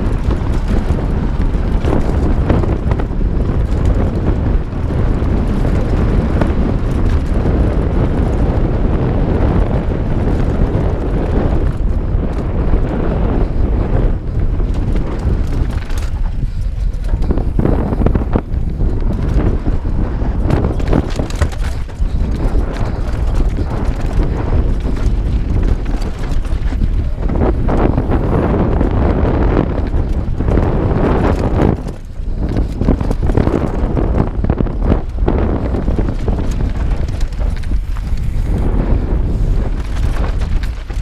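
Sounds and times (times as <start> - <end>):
bike knocks and rattles: 0.0 - 41.0
bike tyre noise: 0.0 - 41.0
wind buffeting microphone: 0.0 - 41.0.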